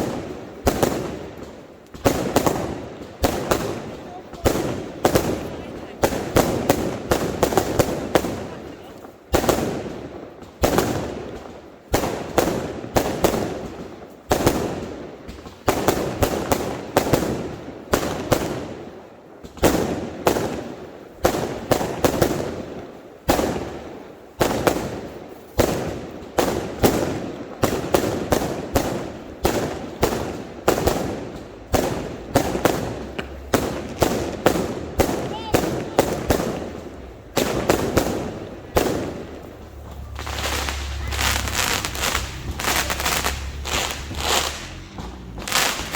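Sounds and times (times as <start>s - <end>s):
fireworks banging: 0.0s - 45.9s.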